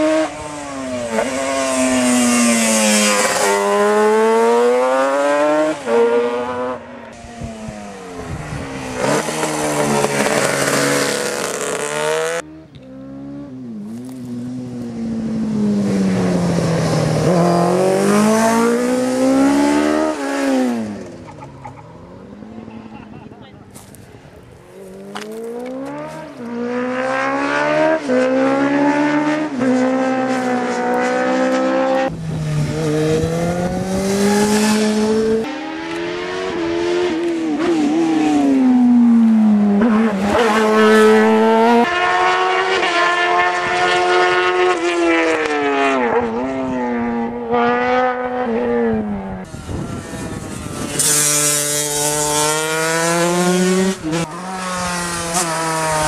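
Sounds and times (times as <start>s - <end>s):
high-revving motorcycle engine: 0.0s - 23.4s, 24.8s - 56.0s
racing engines revving: 0.0s - 23.8s, 24.7s - 56.0s.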